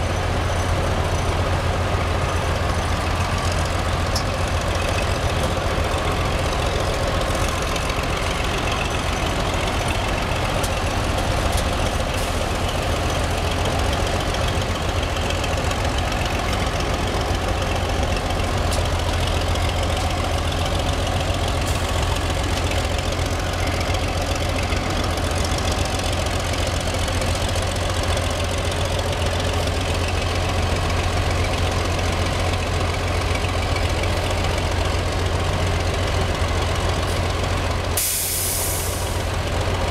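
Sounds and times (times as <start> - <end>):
truck crane engine running: 0.0 - 39.9.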